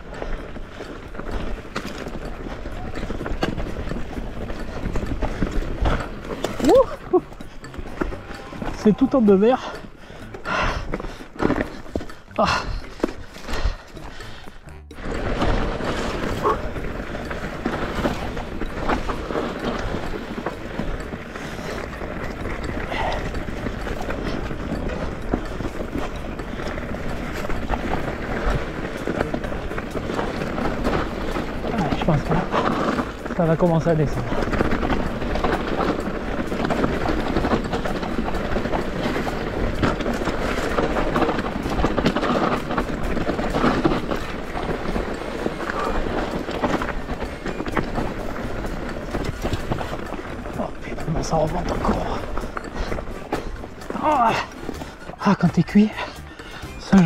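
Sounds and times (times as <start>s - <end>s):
bike knocks and rattles: 0.0s - 56.2s
tyres crunching on gravel: 0.0s - 57.0s.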